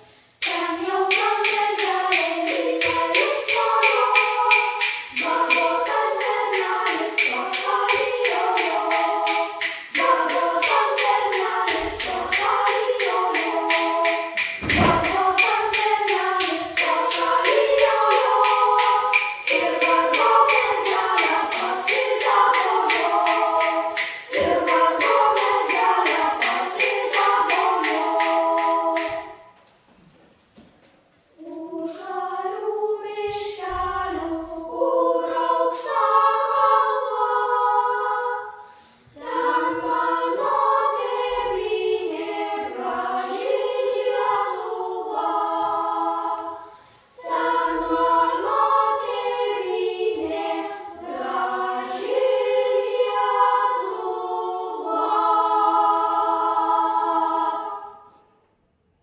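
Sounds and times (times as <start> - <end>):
boys choir singing folk song: 0.0 - 30.1, 31.3 - 58.3.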